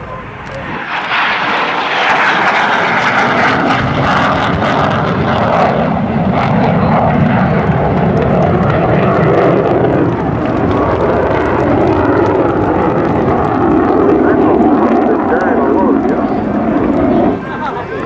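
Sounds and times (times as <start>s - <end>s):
jet flyby roar: 0.0s - 18.0s.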